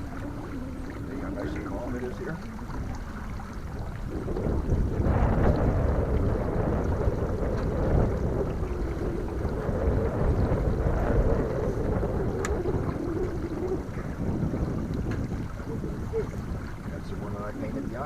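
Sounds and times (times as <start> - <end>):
wavering mid-pitched hum: 0.0 - 16.6
wind buffeting microphone: 0.0 - 18.0.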